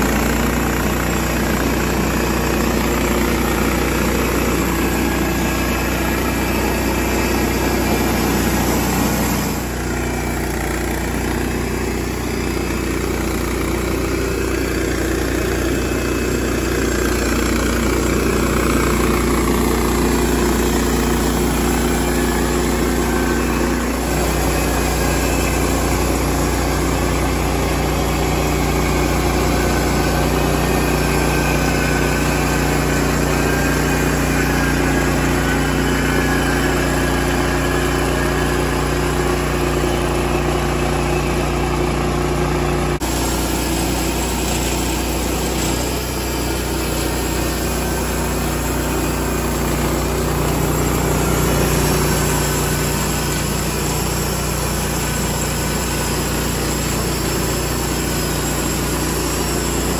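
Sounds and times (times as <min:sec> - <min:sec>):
sawmill engine running under load: 0:00.0 - 0:59.9.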